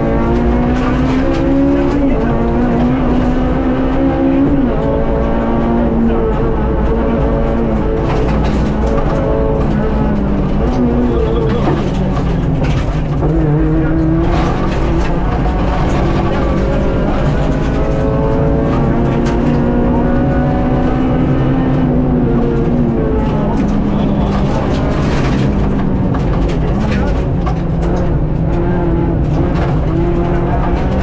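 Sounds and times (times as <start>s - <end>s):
car engine revving: 0.0s - 31.0s
road and tyre rumble: 0.0s - 31.0s.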